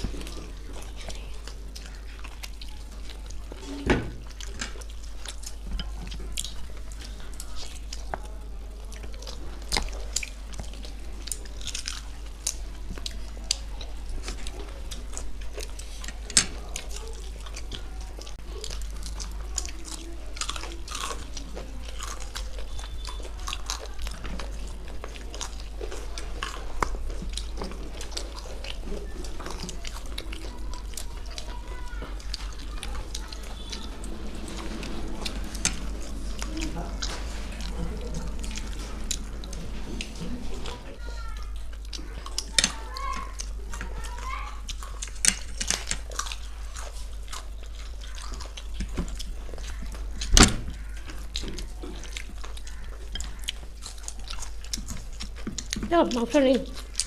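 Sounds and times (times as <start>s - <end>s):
people chewing crispy food: 0.0s - 57.0s.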